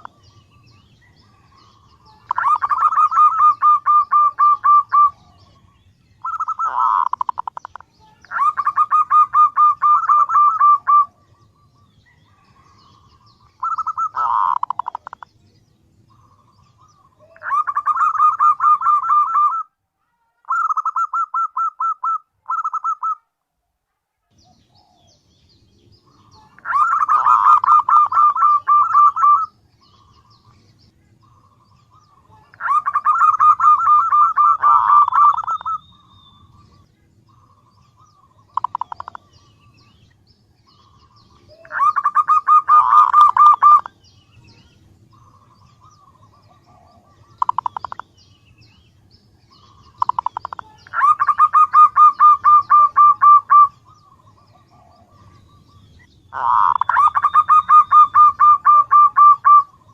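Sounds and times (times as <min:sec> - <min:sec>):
dove calling in clipped notes: 0:00.0 - 0:15.4, 0:16.1 - 0:19.8, 0:20.4 - 0:23.3, 0:26.0 - 0:48.8, 0:49.5 - 0:59.9.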